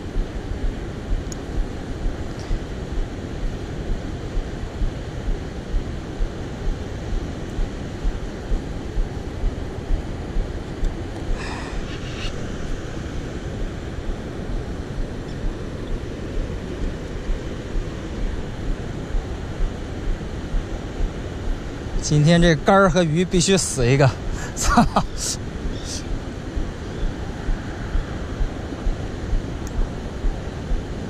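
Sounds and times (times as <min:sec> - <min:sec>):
low microphone rumble: 0:00.0 - 0:23.4, 0:24.1 - 0:31.0.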